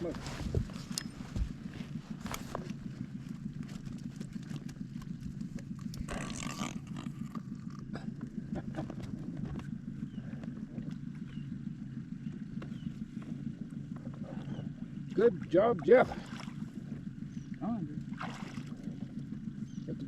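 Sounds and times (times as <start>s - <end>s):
outboard motor idling: 0.0s - 20.0s.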